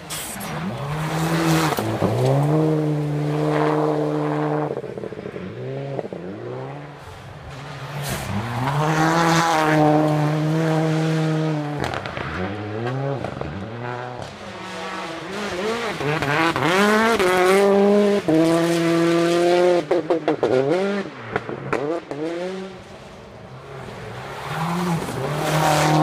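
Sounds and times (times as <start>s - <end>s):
rally car engines passing: 0.0s - 26.0s.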